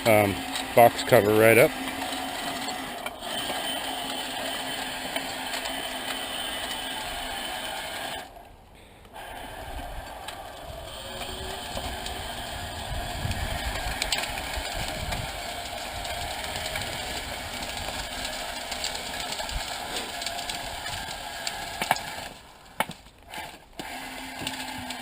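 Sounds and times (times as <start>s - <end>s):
remote-control dozer mechanical rattle: 0.0s - 25.0s.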